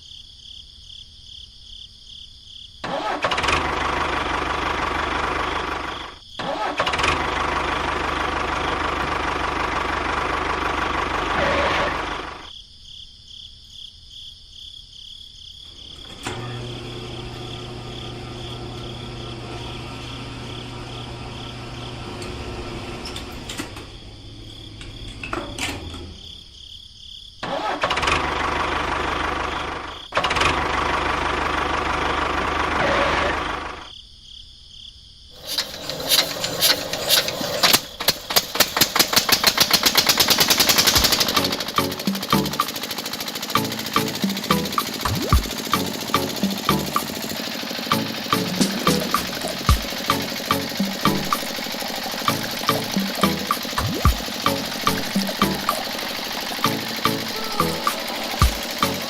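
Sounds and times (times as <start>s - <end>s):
small engine running: 2.8s - 12.5s, 15.7s - 25.8s, 27.4s - 33.9s, 35.4s - 59.0s.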